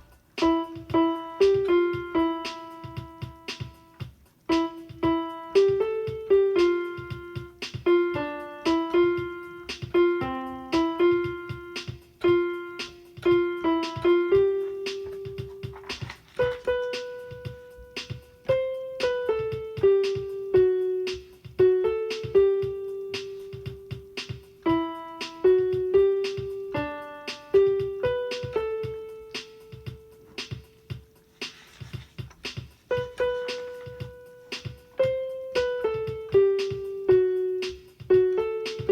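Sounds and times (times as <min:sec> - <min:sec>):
piano playing a tune: 0:00.0 - 0:38.9.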